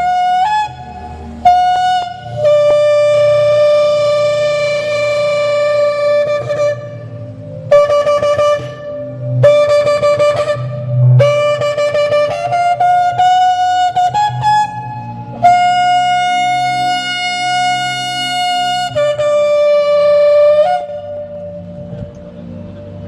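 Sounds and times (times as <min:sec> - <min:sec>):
shofar blasts: 0:00.0 - 0:21.6.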